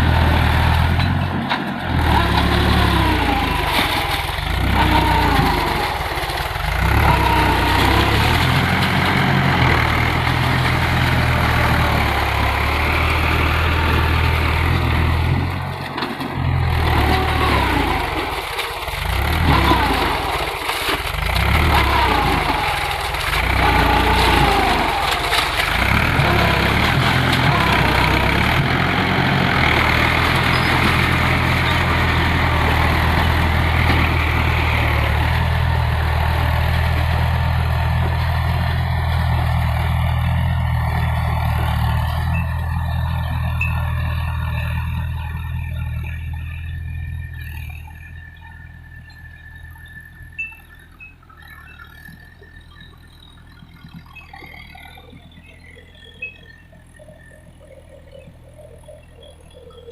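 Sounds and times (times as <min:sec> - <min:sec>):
tractor diesel engine throbbing: 0:00.0 - 0:59.9.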